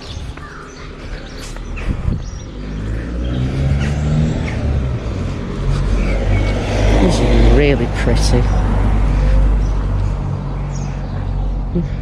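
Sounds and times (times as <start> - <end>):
car engine approaching: 0.0 - 12.0
small birds chirping: 0.0 - 12.0.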